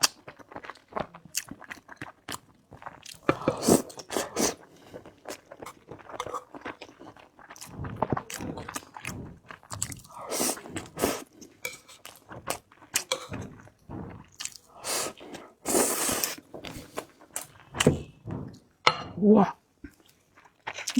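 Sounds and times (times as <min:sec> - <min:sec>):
person chewing food: 0:00.0 - 0:18.6.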